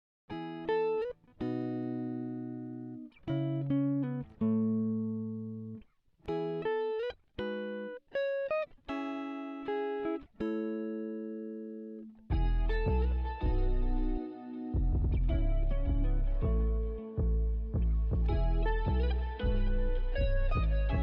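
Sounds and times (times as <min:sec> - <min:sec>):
plucked guitar notes and chords: 0:00.3 - 0:21.0.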